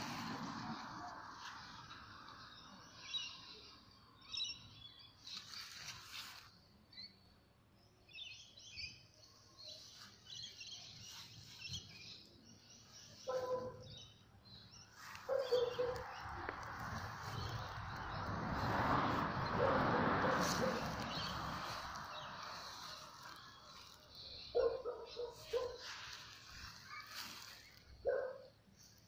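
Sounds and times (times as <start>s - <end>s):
small birds chirping: 1.0s - 29.0s.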